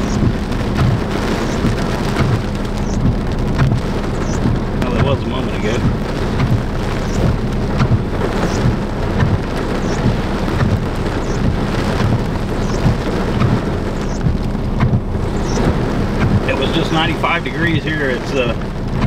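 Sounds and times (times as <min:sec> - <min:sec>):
raindrops knocking on phone: 0:00.0 - 0:17.8
heavy rain falling: 0:00.0 - 0:19.0.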